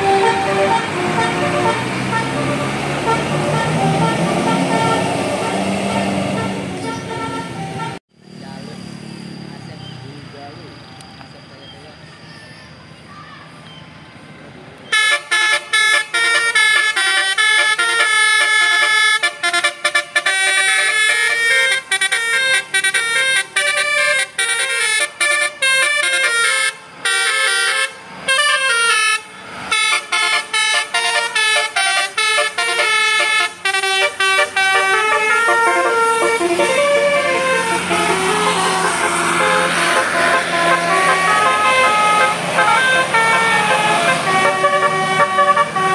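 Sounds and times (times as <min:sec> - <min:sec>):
bus horn playing a tune: 0:00.0 - 0:08.0, 0:14.9 - 0:45.9.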